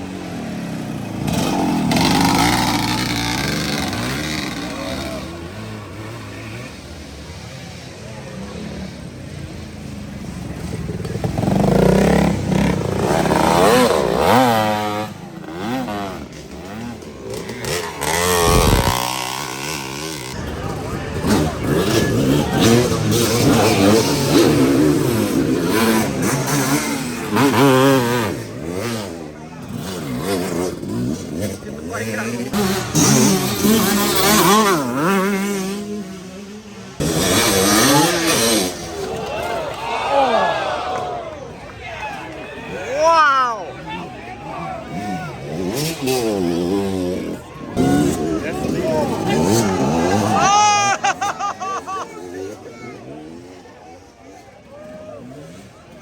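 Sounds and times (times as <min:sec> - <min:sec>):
motorcycle engine revving: 0:00.0 - 0:39.6, 0:43.8 - 0:56.0.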